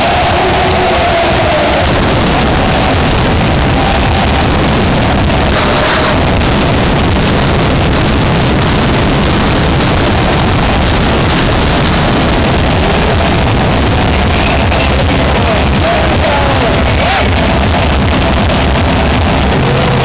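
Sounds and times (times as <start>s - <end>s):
stadium crowd roaring: 0.0s - 20.0s.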